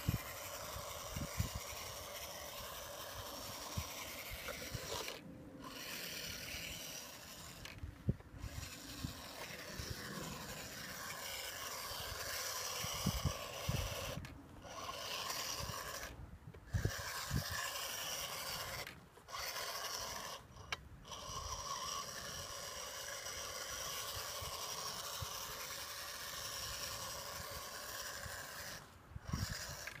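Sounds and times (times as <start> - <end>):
toy car electric motor whirring: 0.0 - 30.0.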